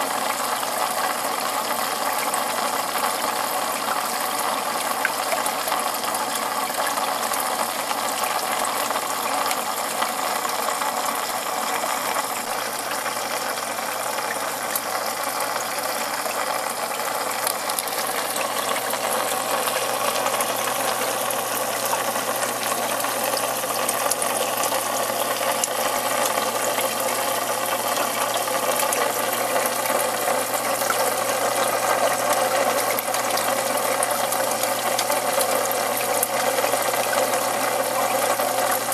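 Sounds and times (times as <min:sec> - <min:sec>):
aquarium water noise: 0:00.0 - 0:38.9.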